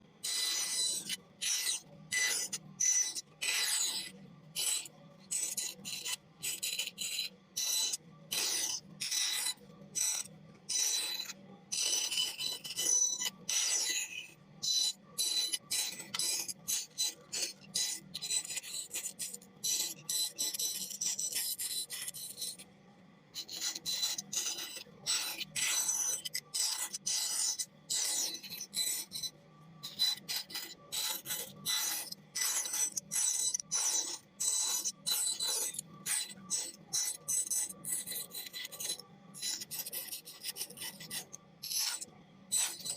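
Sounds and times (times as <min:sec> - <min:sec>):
blade rasping into wood: 0:00.2 - 0:22.5, 0:23.4 - 0:42.9.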